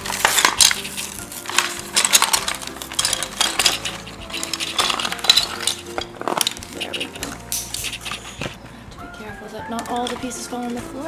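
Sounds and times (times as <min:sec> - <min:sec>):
plastic toy pieces clattering: 0:00.0 - 0:08.6, 0:09.8 - 0:11.0.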